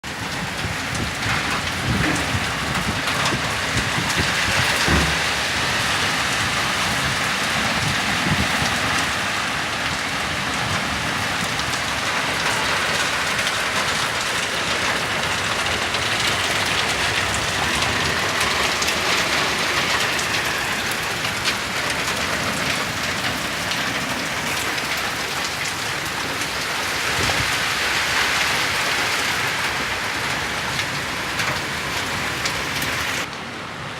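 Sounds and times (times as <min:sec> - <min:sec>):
raindrops ticking on surfaces: 0:00.0 - 0:33.6
heavy rain falling: 0:00.0 - 0:33.9.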